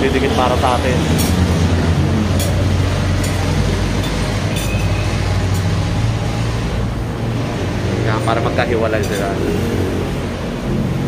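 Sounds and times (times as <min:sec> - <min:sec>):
passing road traffic rumble: 0:00.0 - 0:11.0.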